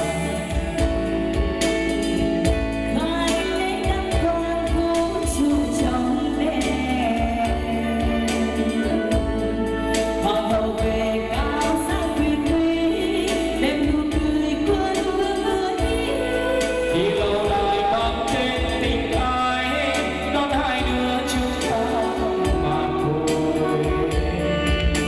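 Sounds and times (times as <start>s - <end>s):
love song with instrumental backing: 0.0s - 25.0s.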